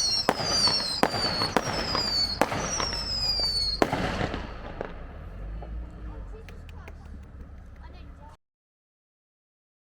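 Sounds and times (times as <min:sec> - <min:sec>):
firework pops and crackle: 0:00.0 - 0:08.3
firework bangs: 0:00.0 - 0:08.4
whistling fireworks: 0:00.0 - 0:08.4.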